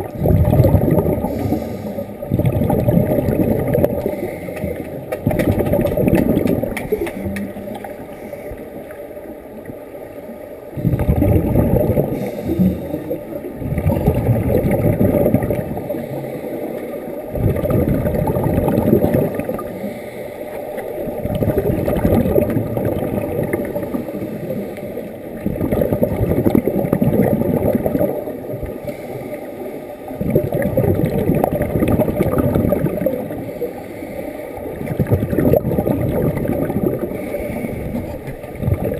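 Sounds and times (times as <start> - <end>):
underwater exhaust bubbles: 0.0 - 38.9.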